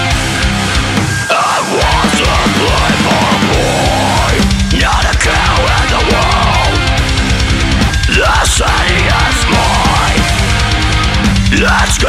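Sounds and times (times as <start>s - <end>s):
distorted guitars: 0.0s - 12.0s
fast drumming: 0.0s - 12.0s.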